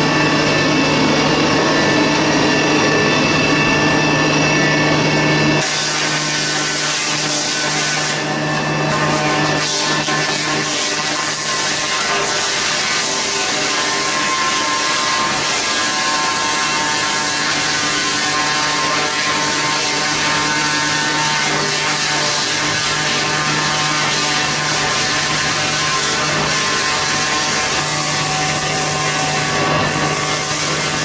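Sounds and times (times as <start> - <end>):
debarking machine milling log: 0.0 - 31.0.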